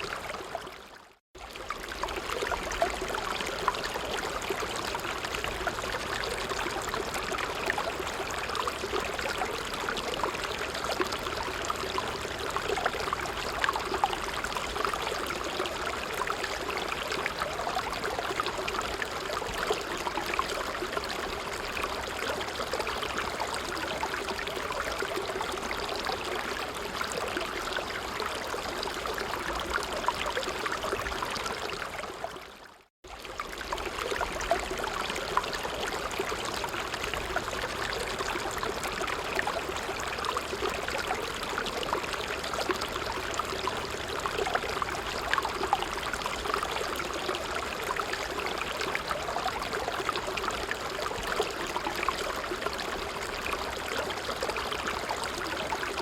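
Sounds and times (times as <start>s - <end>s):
stream trickling and splashing: 0.0s - 56.0s.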